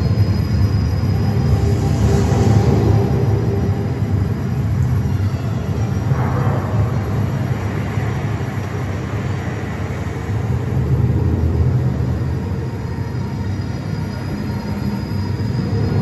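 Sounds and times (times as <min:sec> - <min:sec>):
deep rumbling sound design: 0:00.0 - 0:16.0.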